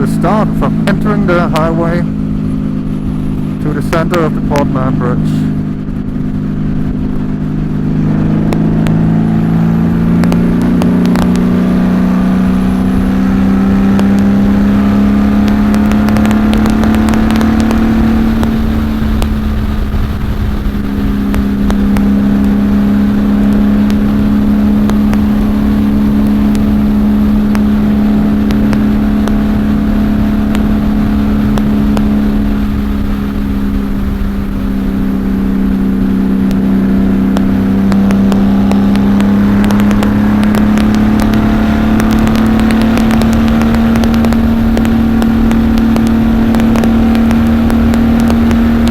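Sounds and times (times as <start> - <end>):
wind buffeting: 0.0 - 4.5, 5.4 - 48.9
motorcycle engine at highway speed: 0.0 - 48.9.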